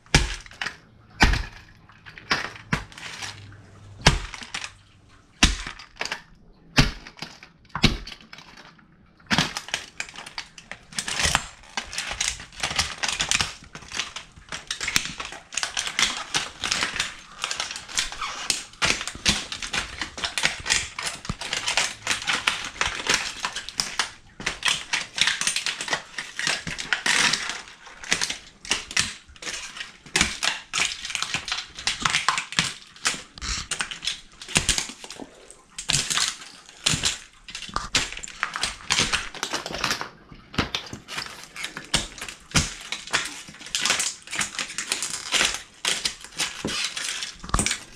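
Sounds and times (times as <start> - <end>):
boots stomping on plastic: 0.0 - 4.8, 5.4 - 6.1, 9.3 - 47.9
plastic cracking and crunching: 0.0 - 47.9
plastic pieces rattling: 0.0 - 47.9.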